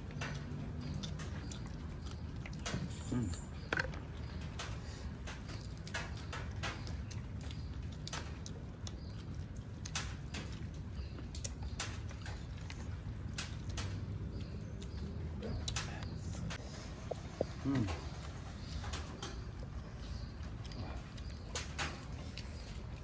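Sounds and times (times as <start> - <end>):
people chewing and sucking bones: 0.0 - 23.0.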